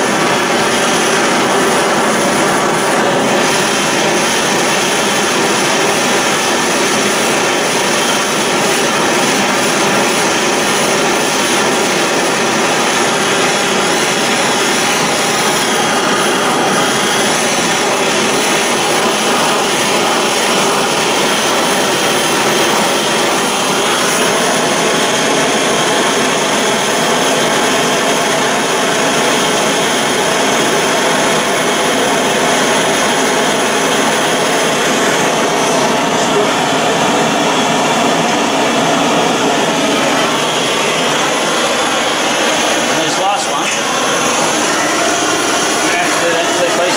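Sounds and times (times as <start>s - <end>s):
blowtorch hissing: 0.0s - 46.9s.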